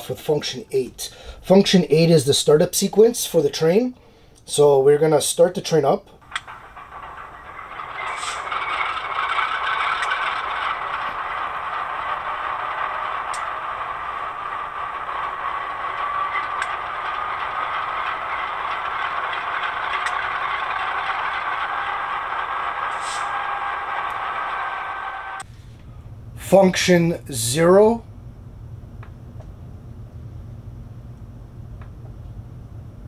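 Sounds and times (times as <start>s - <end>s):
model locomotive diesel engine sound: 0.0s - 28.3s.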